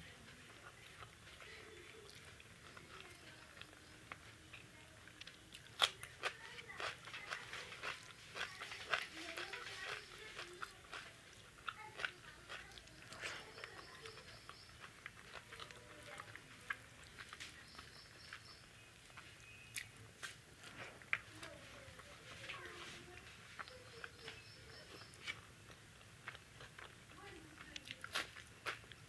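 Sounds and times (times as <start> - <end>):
fingers mixing food on plate: 0.0 - 29.0
person chewing with lip-smacks: 0.3 - 29.0.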